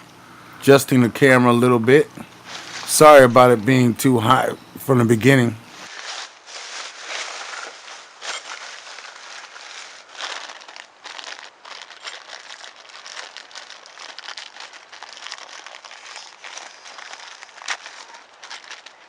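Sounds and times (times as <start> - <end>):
crinkling crackling rustle: 2.2 - 4.5, 5.7 - 19.0.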